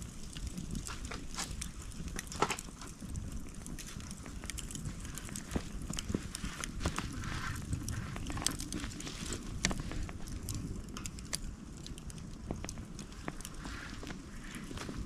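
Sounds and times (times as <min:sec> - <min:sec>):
bonfire crackling and popping: 0:00.0 - 0:15.0
low steady rumble: 0:00.0 - 0:15.0.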